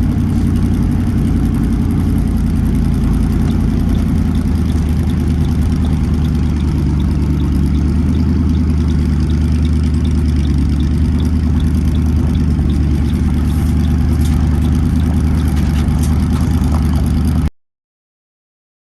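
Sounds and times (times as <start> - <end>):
car engine idling: 0.0 - 17.5
faint light ticking: 0.2 - 17.0.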